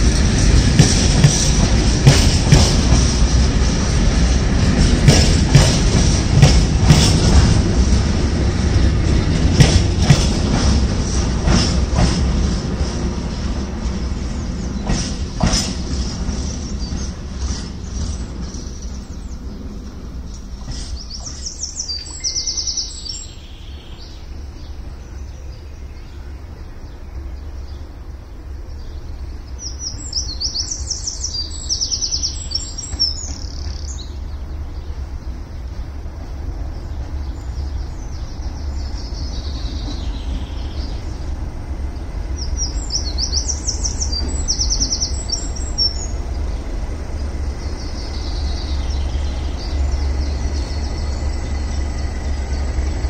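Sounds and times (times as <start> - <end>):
diesel locomotive rumble: 0.0 - 53.0
songbirds singing: 5.0 - 53.0.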